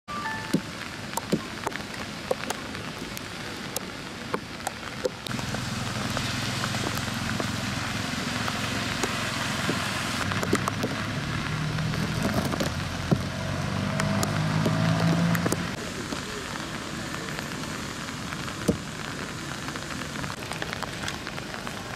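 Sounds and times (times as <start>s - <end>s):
rain falling: 0.1s - 21.9s
raindrops clicking on a surface: 0.1s - 21.9s.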